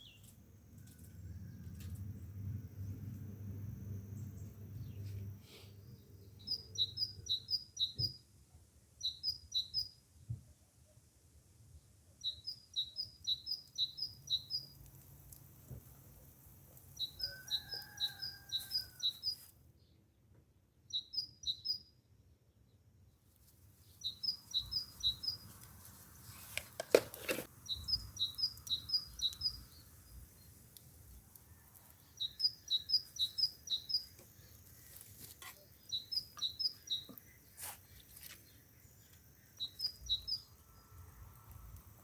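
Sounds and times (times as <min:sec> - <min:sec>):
songbird singing: 0:00.0 - 0:03.1, 0:03.9 - 0:08.3, 0:09.0 - 0:10.0, 0:12.2 - 0:20.1, 0:20.8 - 0:22.0, 0:23.8 - 0:42.0.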